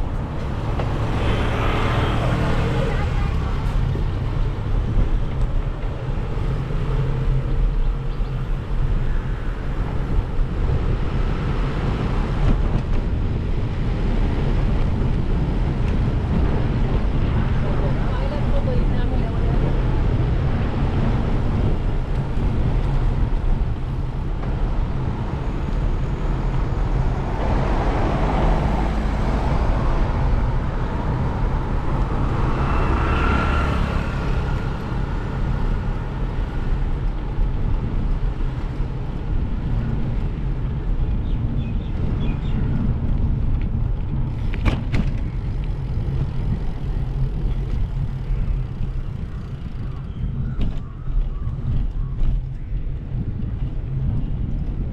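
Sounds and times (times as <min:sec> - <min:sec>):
vehicle road and wind noise: 0:00.0 - 0:54.9.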